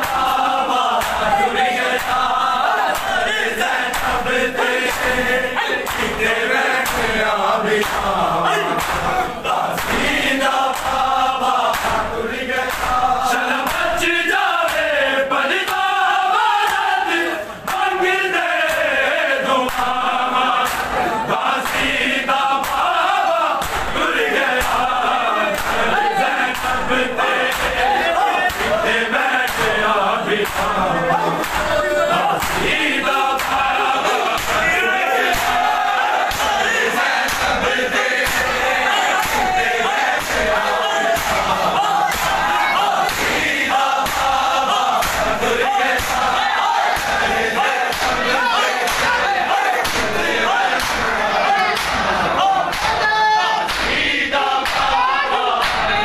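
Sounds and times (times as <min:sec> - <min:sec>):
hands slapping chests: 0:00.0 - 0:15.0, 0:15.6 - 0:16.9, 0:17.6 - 0:28.8, 0:29.4 - 0:56.0
crowd of men chanting: 0:00.0 - 0:56.0.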